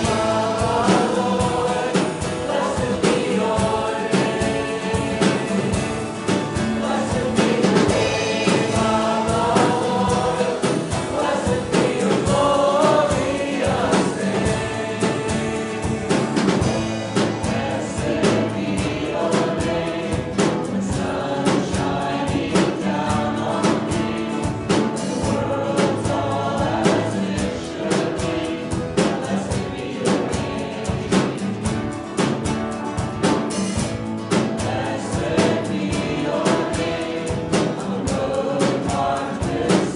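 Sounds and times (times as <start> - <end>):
band playing: 0.0 - 39.9
group singing worship song: 0.0 - 39.9
steady drum beat: 0.0 - 39.9.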